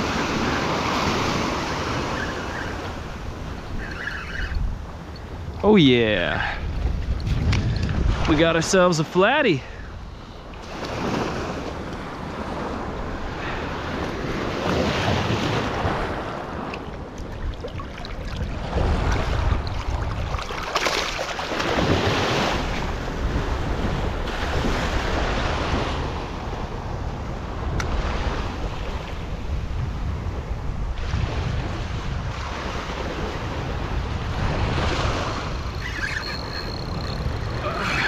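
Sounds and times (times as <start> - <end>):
ocean surf on sandy beach: 0.0 - 38.0
wind rumbling on microphone: 0.0 - 38.0.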